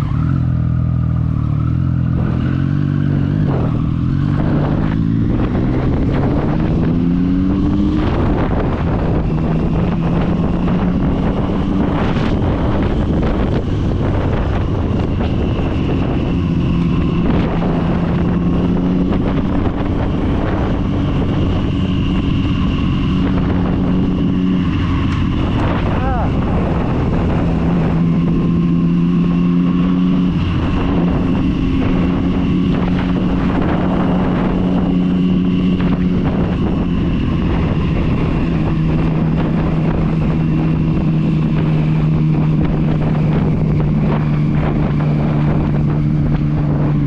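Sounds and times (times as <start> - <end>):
motorcycle engine accelerating: 0.0 - 47.0
wind on microphone: 0.0 - 47.0.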